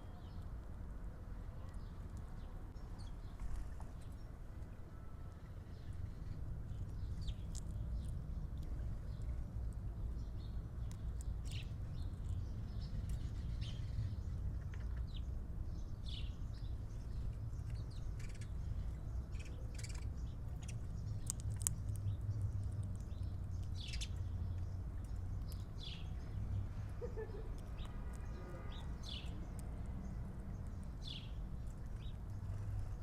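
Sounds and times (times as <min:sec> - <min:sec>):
small birds chirping: 0:01.5 - 0:33.0.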